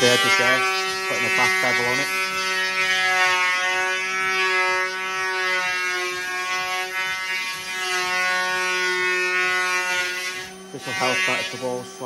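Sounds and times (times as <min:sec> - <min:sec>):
power planer whining: 0:00.0 - 0:12.0.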